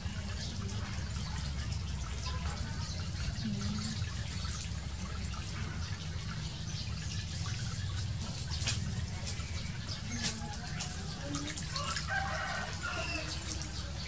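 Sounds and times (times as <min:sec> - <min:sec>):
small splashes: 0:00.0 - 0:14.0
water running and splashing: 0:00.0 - 0:14.0.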